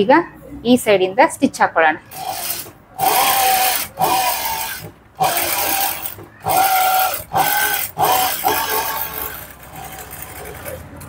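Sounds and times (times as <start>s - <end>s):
sewing machine stitching: 2.1s - 11.0s.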